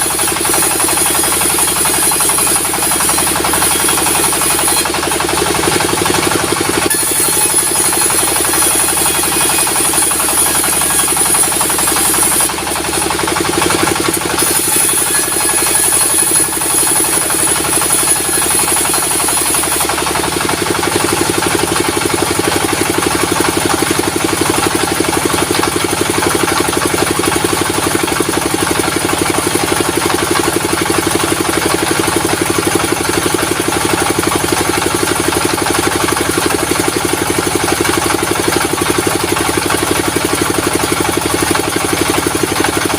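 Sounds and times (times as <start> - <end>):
diesel engine running: 0.0 - 42.9
saw shrieking through log: 0.0 - 42.9.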